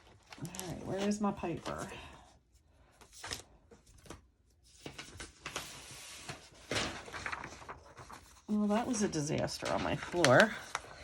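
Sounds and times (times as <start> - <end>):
paper rustling and shuffling: 0.0 - 11.0.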